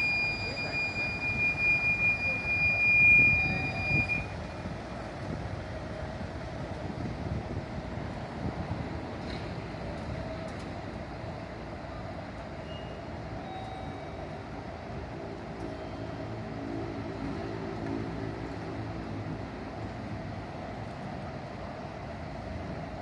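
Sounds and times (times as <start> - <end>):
large vehicle engine running: 3.2 - 13.4, 14.0 - 23.0.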